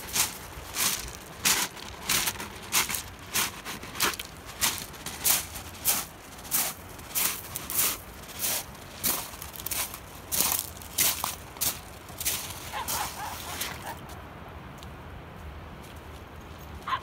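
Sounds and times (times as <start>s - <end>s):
footsteps crunching on shingle: 0.0s - 14.0s.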